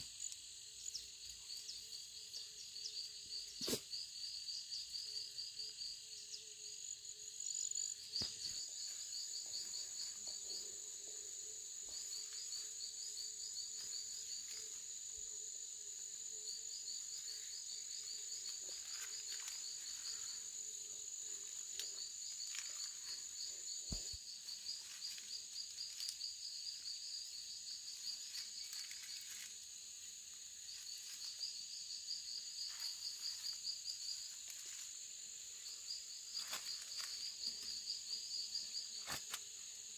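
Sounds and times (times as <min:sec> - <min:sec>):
insects buzzing: 0:00.0 - 0:39.9
rapid insect chirps: 0:00.0 - 0:39.9.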